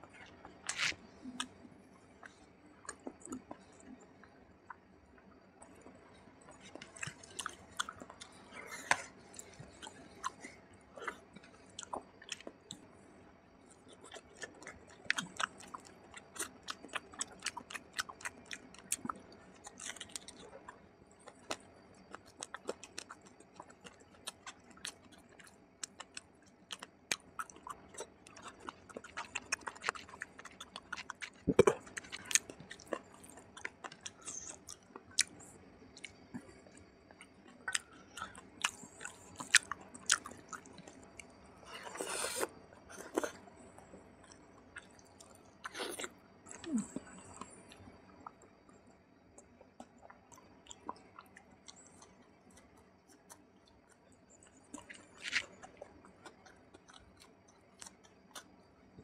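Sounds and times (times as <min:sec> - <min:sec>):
wet chewing and mouth sounds: 0:00.1 - 0:04.9, 0:05.6 - 0:13.0, 0:13.6 - 0:59.0.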